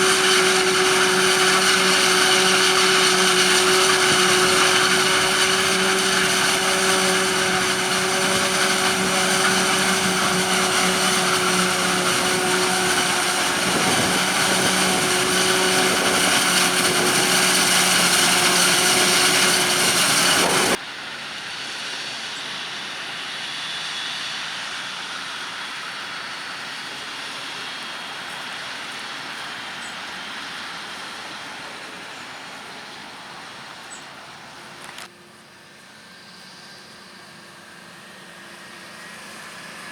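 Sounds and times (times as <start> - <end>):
harvester machine with high whine: 0.0 - 39.9
quiet engine running: 0.0 - 39.9.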